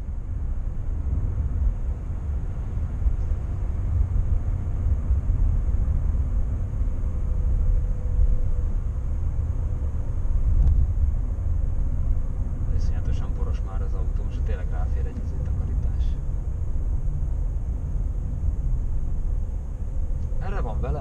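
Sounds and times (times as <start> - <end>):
car engine rumble: 0.0 - 21.0
tyres on the road: 0.0 - 21.0.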